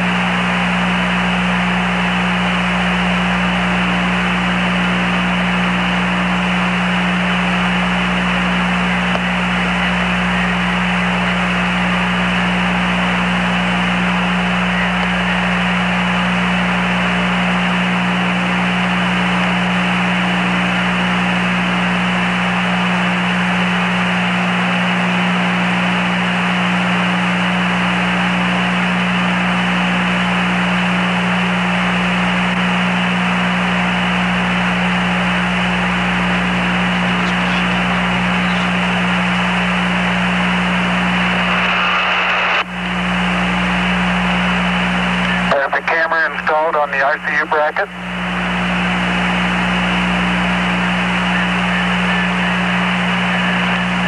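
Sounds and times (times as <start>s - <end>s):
constant low hum: 0.0s - 54.0s
radio static hiss: 0.0s - 54.0s.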